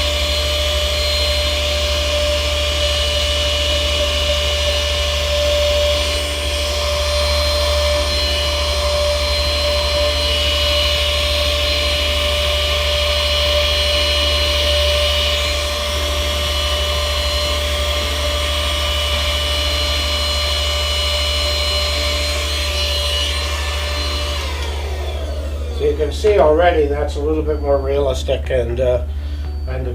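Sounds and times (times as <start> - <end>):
handheld vacuum cleaner whine: 0.0 - 29.9.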